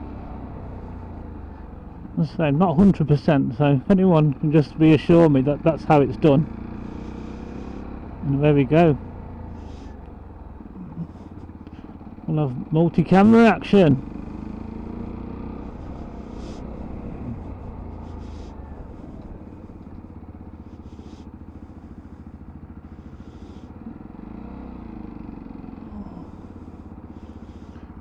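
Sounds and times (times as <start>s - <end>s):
motorcycle engine and road rumble: 0.0s - 28.0s.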